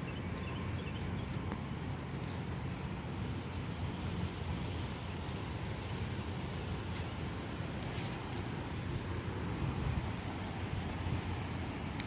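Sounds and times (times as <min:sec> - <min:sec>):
creek water rushing: 0:00.0 - 0:12.0
wind rumble on microphone: 0:00.0 - 0:12.0.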